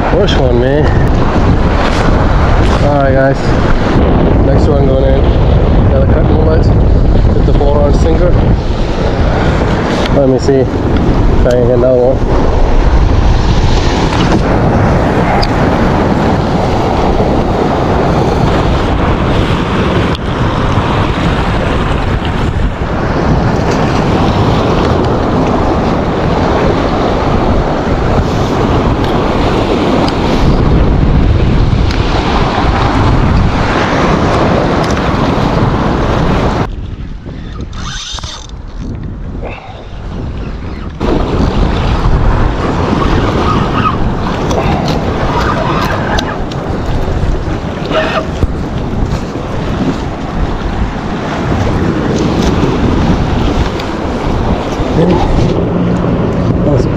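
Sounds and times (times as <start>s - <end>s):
waves washing against rocks: 0.0s - 37.3s, 41.0s - 56.9s
wind buffeting microphone: 0.0s - 56.9s.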